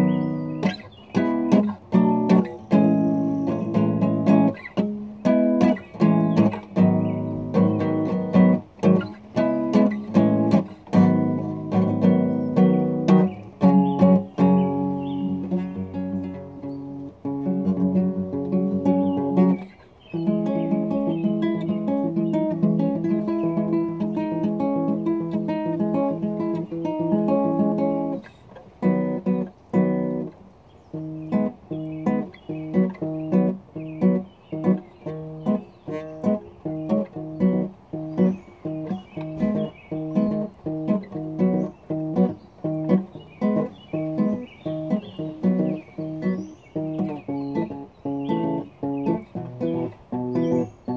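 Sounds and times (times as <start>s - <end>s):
acoustic guitar chords: 0.0s - 50.9s.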